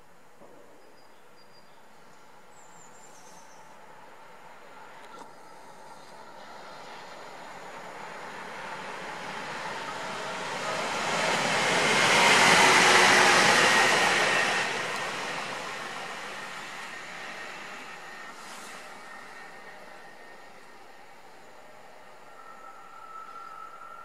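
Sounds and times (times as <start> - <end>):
faint locomotive whine: 0.0 - 24.0.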